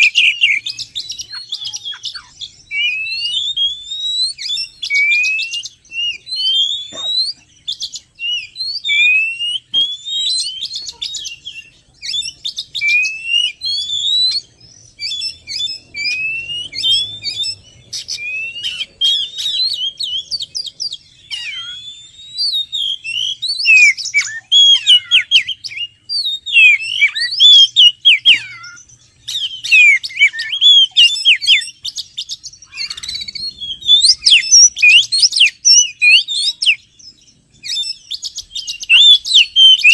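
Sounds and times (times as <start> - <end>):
magpie-robin song: 0.0 - 39.9.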